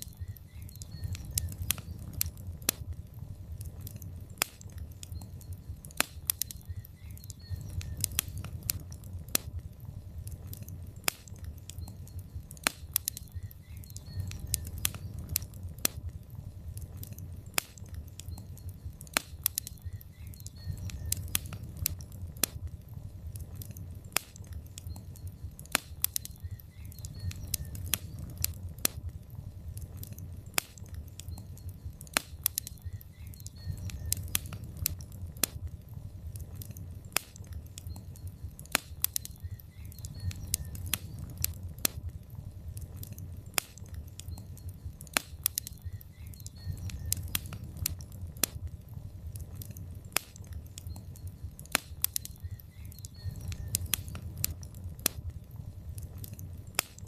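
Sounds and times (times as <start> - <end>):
log fire crackling and popping: 0.0 - 57.0
low rumble of fire: 0.0 - 57.0.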